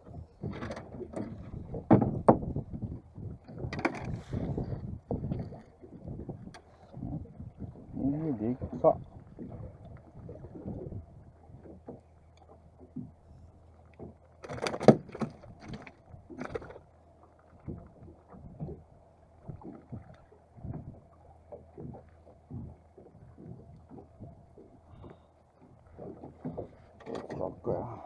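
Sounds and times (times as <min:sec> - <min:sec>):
low steady hum: 0:00.0 - 0:28.0
water slapping against hull: 0:00.0 - 0:28.0.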